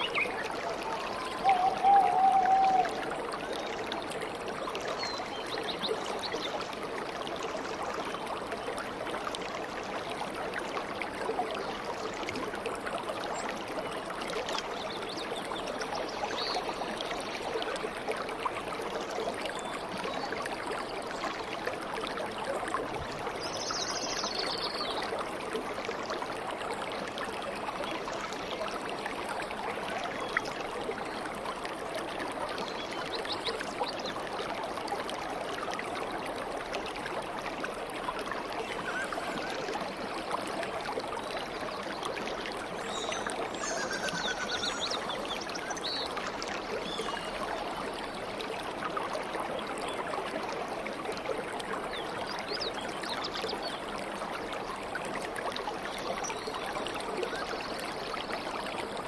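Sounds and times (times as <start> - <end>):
stream babbling: 0.0 - 59.0.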